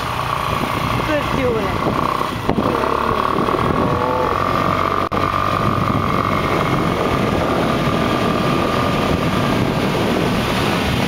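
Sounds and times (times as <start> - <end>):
motorbike engine running: 0.0 - 11.0
wind and road noise: 0.0 - 11.0.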